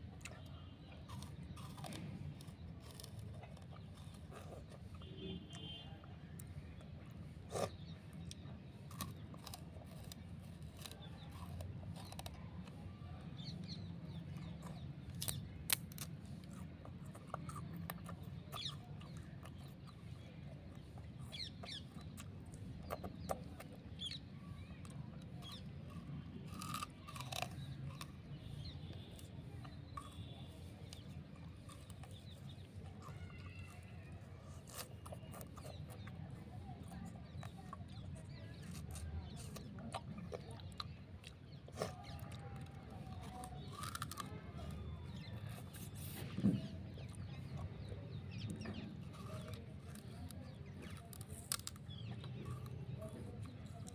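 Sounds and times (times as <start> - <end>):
sugarcane crunching when chewed: 0.0 - 53.9.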